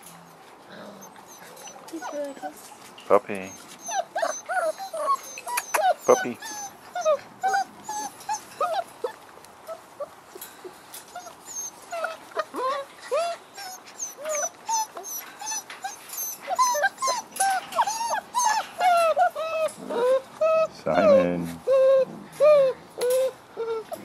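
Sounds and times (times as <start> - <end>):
puppies whining and yelping: 0.3 - 24.0.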